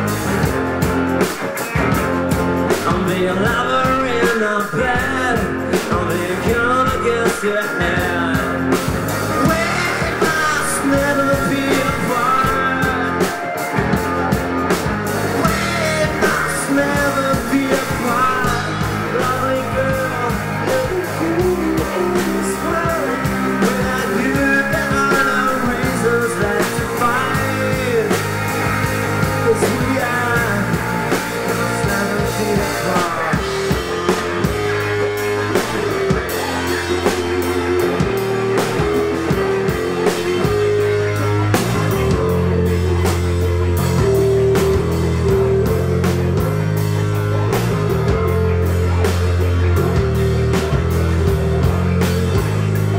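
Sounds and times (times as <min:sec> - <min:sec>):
lead guitar melody bending: 0:00.0 - 0:52.9
live rock band playing: 0:00.0 - 0:52.9.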